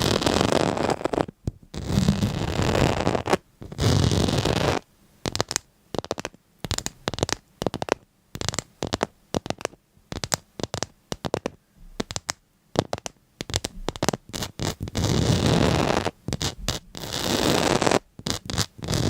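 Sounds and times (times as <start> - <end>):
scratching crackles: 0.0 - 19.0.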